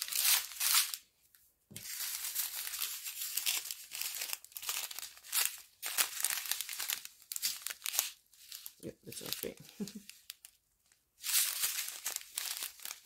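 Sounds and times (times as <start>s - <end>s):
plastic bags crinkling: 0.0s - 1.0s, 1.8s - 10.6s, 11.2s - 13.0s.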